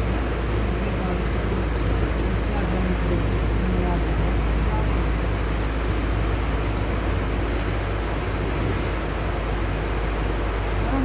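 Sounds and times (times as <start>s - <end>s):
bus engine rumble: 0.0s - 11.0s
road and air hiss: 0.0s - 11.0s.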